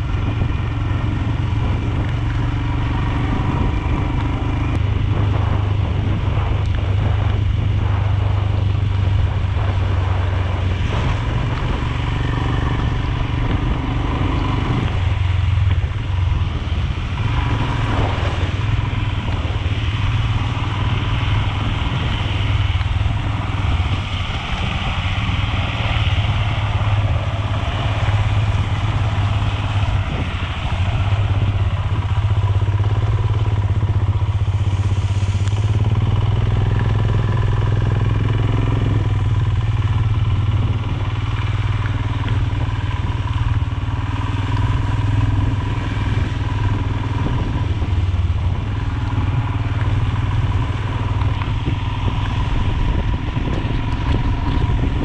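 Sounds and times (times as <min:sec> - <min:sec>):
motorcycle engine running: 0:00.0 - 0:55.0
tyres on wet muddy road: 0:00.0 - 0:55.0.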